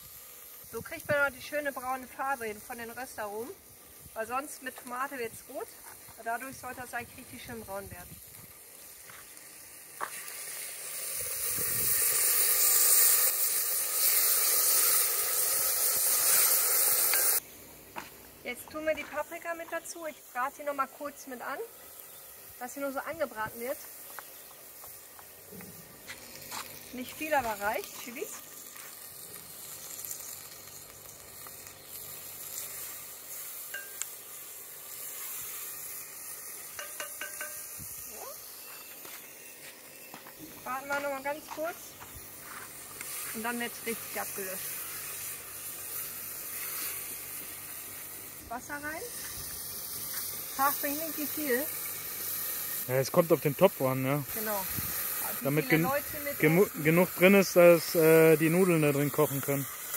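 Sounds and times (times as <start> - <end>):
meat and onions sizzling: 0.0 - 59.9.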